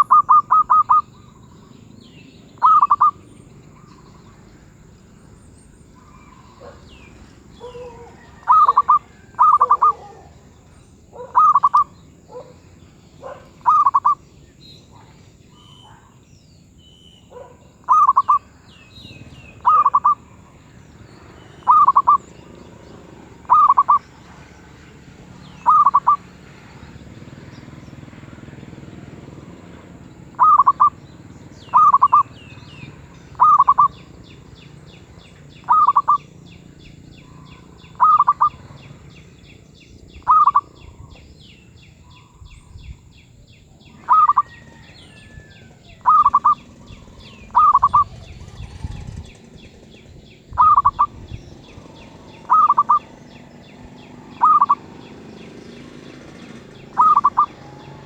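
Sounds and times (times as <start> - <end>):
dove cooing: 0.0 - 1.8, 2.5 - 5.1, 5.8 - 14.2, 17.3 - 39.6, 40.2 - 41.3, 43.8 - 58.0.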